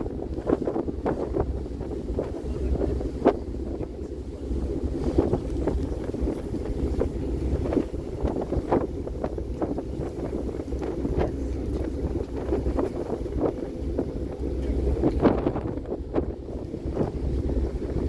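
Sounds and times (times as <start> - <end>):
low rumble from boat: 0.0 - 18.0
wind buffeting microphone: 0.0 - 18.0.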